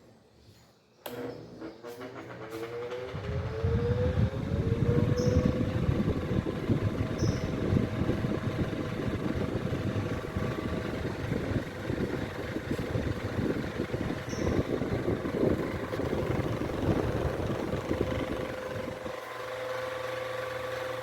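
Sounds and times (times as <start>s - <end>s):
desk fan motor hum: 1.1s - 21.0s.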